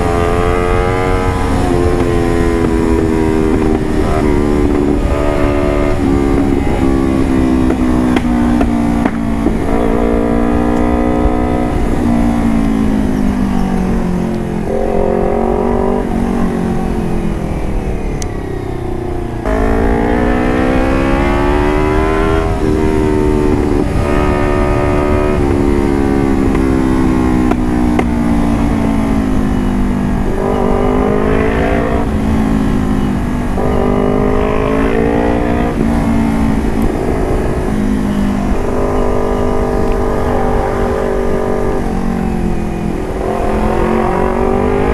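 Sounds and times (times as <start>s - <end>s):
vehicle engine revving: 0.0s - 44.9s.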